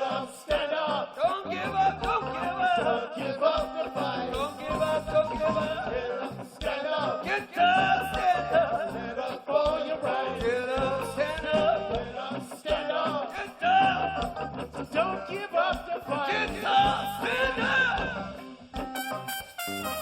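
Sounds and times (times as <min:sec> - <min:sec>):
person singing: 0:00.0 - 0:18.5
band playing reggae song: 0:00.0 - 0:20.0.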